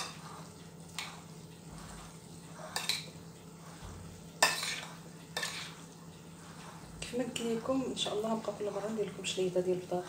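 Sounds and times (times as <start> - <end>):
metal spoon scraping a bowl: 0.0 - 10.0.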